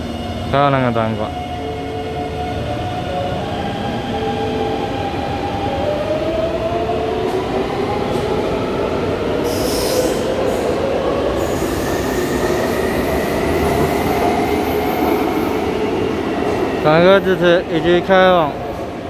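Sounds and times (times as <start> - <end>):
train wheels rumbling on rails: 3.4 - 19.0.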